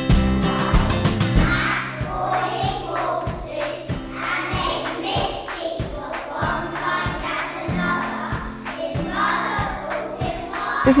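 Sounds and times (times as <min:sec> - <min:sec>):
music with steady beat: 0:00.0 - 0:11.0
children singing: 0:00.5 - 0:11.0.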